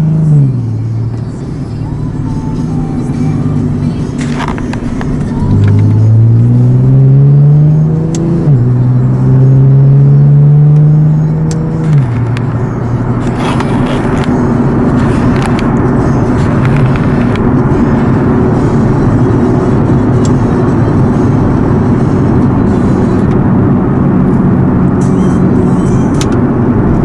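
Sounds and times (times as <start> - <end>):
car engine accelerating: 0.0 - 27.0
road noise: 0.0 - 27.0.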